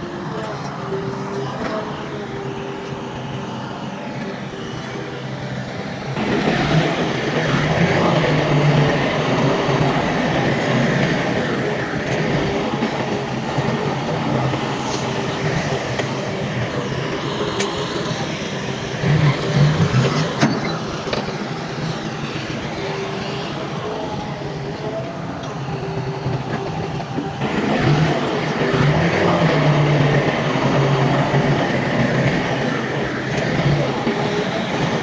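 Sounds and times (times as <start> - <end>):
diesel machinery engine running: 0.0 - 35.0.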